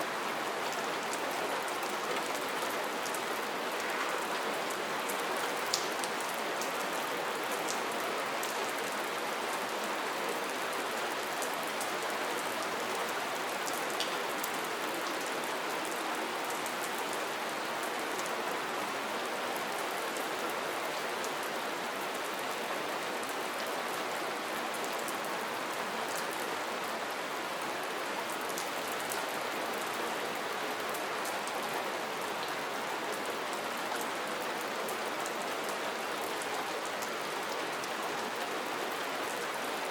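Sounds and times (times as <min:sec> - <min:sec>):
soft rain hiss: 0:00.0 - 0:39.9.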